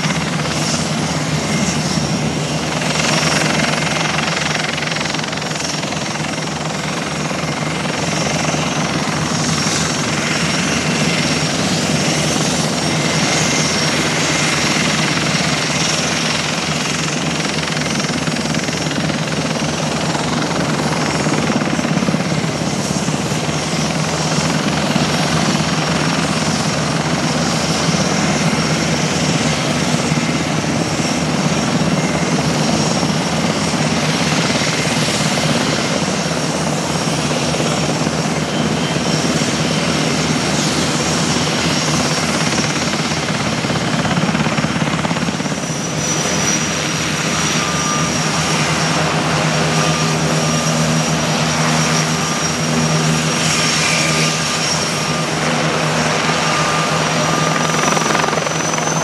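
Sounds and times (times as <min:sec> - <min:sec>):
helicopter rotor beat: 0:00.0 - 0:59.0
turbine whine: 0:00.0 - 0:59.0.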